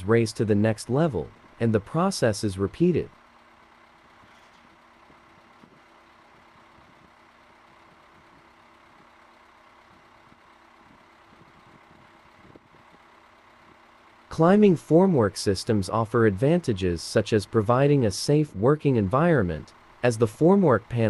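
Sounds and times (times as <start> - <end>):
faint machinery hum: 0.0 - 21.0.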